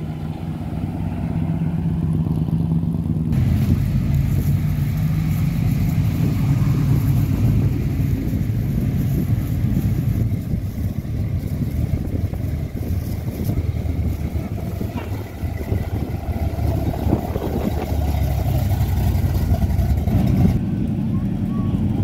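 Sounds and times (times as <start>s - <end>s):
car engines running at low revs: 0.0s - 22.0s.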